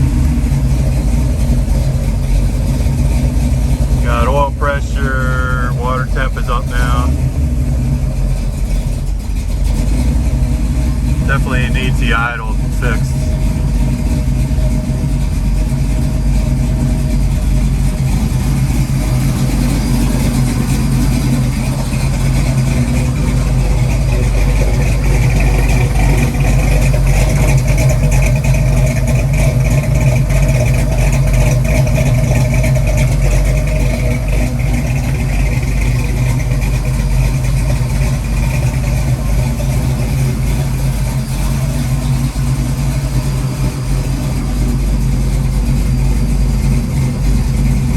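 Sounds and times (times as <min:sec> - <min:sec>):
rough engine idling: 0:00.0 - 0:47.9.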